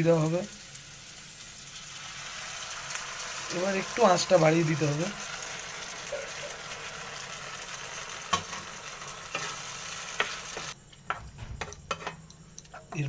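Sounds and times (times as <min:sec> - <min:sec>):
vegetables sizzling in a pan: 0:00.0 - 0:12.9.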